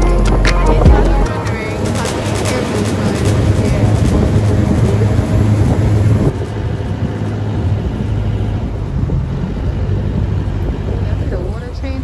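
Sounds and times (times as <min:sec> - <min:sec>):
motorboat engine running: 0:00.0 - 0:12.0
water rushing past hull: 0:00.0 - 0:12.0.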